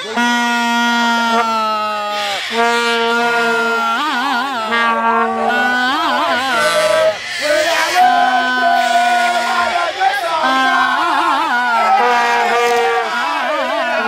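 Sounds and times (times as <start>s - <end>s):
vuvuzela horns droning: 0.0s - 14.0s.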